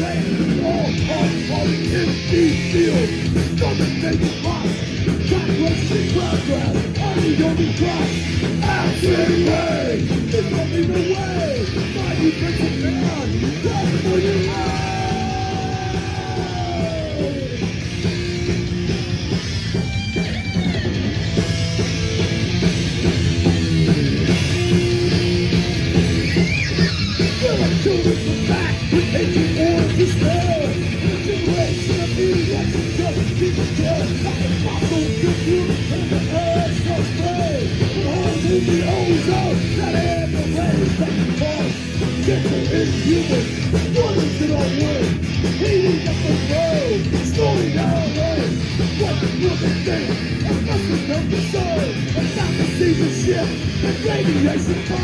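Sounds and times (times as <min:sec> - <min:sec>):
shouted vocals: 0:00.0 - 0:17.8, 0:26.2 - 0:55.0
distorted electric guitars: 0:00.0 - 0:55.0
fast drums: 0:00.0 - 0:55.0
punk band playing loudly: 0:00.0 - 0:55.0.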